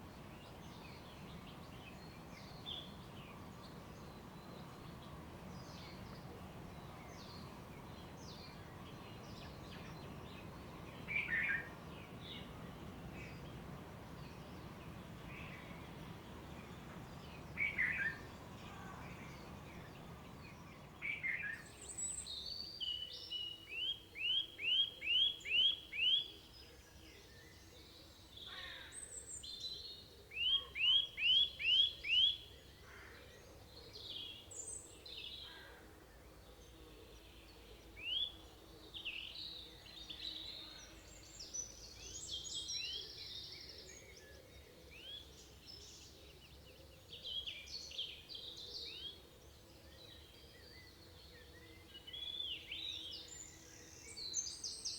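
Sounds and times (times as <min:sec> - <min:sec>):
forest birds singing: 0:00.0 - 0:54.9.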